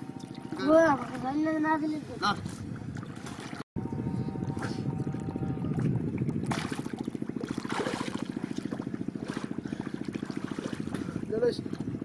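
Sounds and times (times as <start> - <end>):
water splashes: 0.0 - 3.6, 4.4 - 12.0
boat engine chugging: 0.0 - 12.0.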